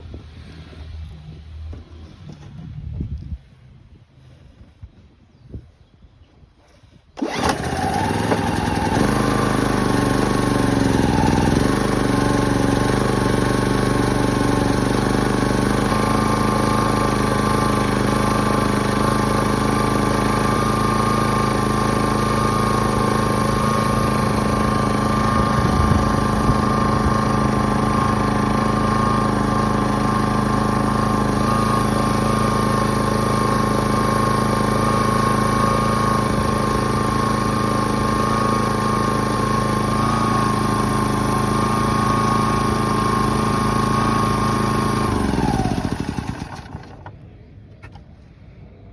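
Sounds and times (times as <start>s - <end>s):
generator engine starting and running: 7.1s - 48.9s.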